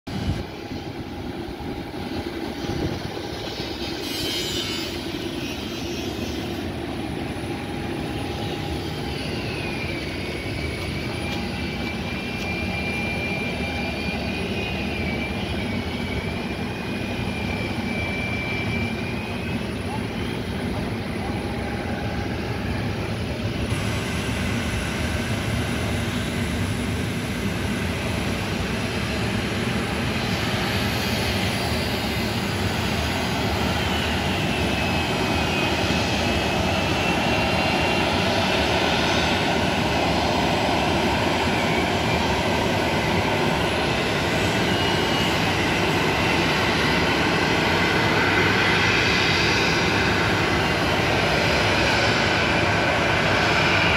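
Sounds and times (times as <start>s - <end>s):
jet engine rumble: 0.1s - 53.9s
turbine whine: 0.1s - 53.9s.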